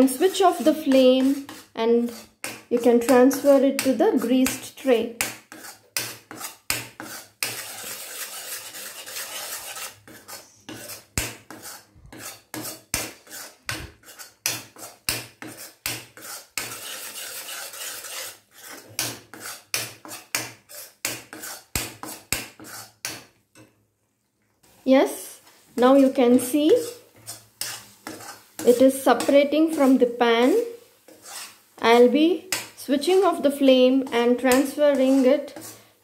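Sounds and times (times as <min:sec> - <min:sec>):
spoon scraping metal pan: 0:00.0 - 0:23.8, 0:24.6 - 0:36.0.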